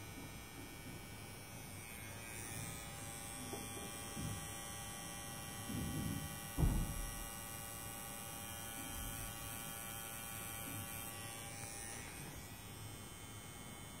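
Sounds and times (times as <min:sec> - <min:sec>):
tattoo pen electric hum: 0:00.0 - 0:14.0.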